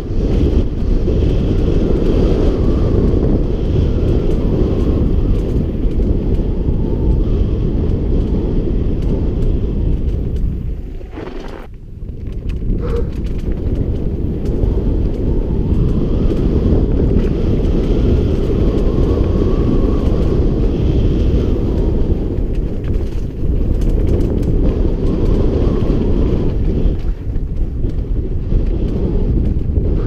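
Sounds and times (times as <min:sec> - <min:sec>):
bike clicks and rattles: 0:00.0 - 0:30.0
tyres rolling on dirt trail: 0:00.0 - 0:30.0
wind buffeting microphone: 0:00.0 - 0:30.0.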